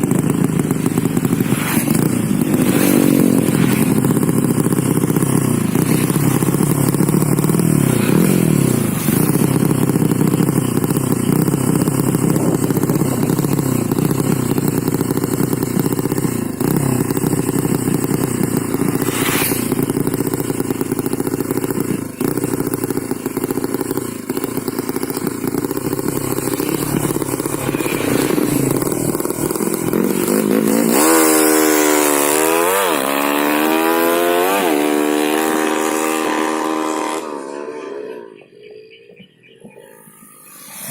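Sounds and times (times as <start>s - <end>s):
motorcycle engine running and revving: 0.0s - 40.9s.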